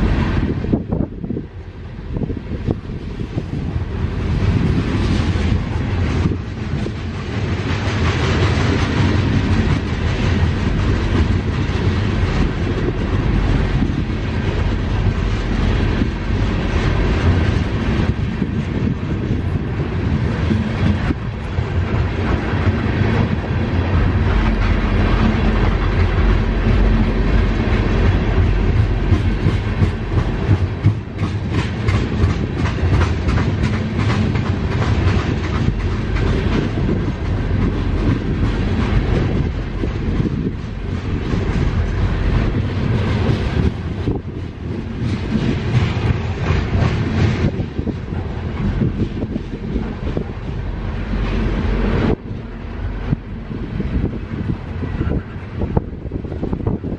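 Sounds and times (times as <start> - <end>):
freight train rumble: 0.0 - 56.9
wheels clicking over rail joints: 2.3 - 56.9.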